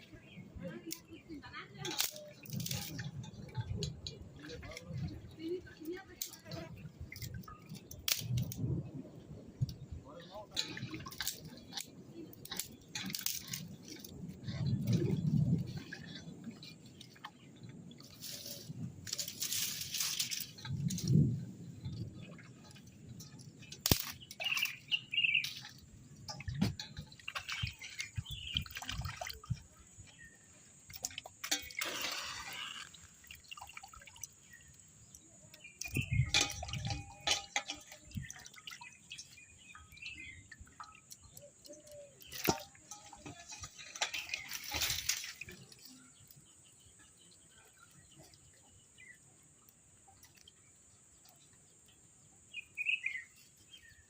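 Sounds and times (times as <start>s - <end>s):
birds chirping: 0.0s - 54.0s
water splashing and dripping: 0.0s - 54.0s.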